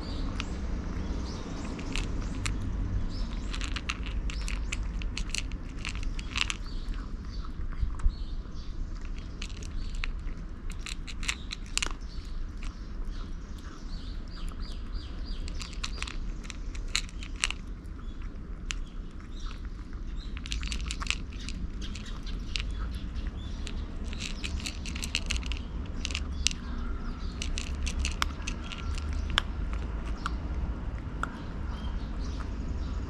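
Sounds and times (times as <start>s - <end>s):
cat chewing food: 0.0s - 31.7s
steady low rumble: 0.0s - 33.0s.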